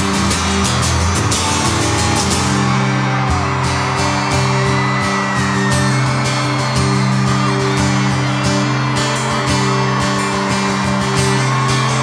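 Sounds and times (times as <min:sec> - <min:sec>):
crowd whooping: 0:00.0 - 0:12.0
guitar strumming: 0:00.0 - 0:12.0.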